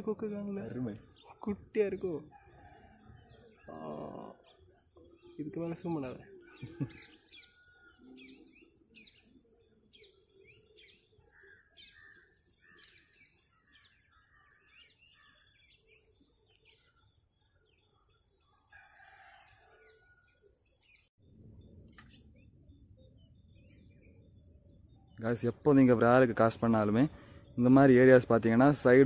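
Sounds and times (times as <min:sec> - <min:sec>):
faint birdsong chirps: 0:00.0 - 0:29.0.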